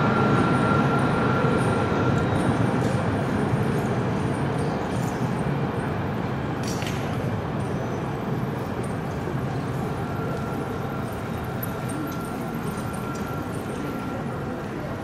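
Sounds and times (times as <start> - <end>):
street noise: 0.0 - 15.0
tram rolling on track: 0.0 - 15.0.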